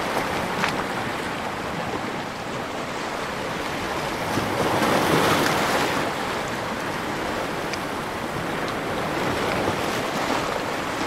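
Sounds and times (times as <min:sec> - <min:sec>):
ocean waves washing on beach: 0:00.0 - 0:11.0.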